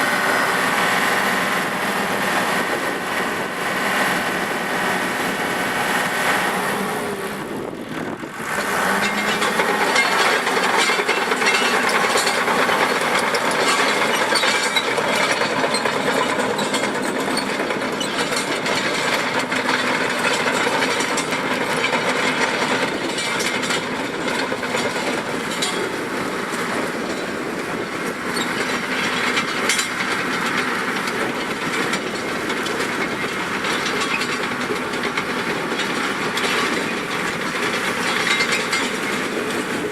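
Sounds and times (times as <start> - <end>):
bulldozer diesel engine running: 0.0 - 39.9
steel tracks clanking and rattling: 0.0 - 39.9.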